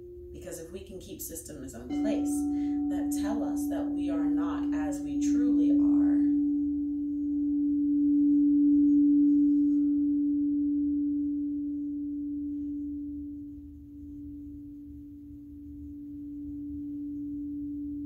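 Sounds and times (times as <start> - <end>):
singing bowl ringing: 1.5 - 18.0.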